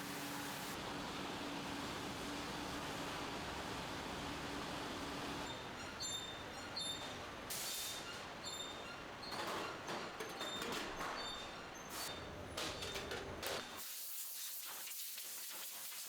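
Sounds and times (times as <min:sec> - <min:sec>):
machinery hum with hiss: 0:00.0 - 0:10.0, 0:11.2 - 0:16.0.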